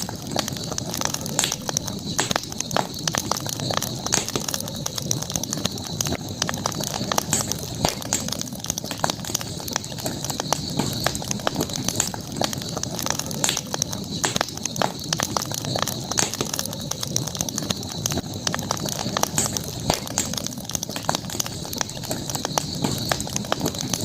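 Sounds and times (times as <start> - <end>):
campfire crackling: 0.0 - 24.0
high-pitched hiss: 0.0 - 24.0.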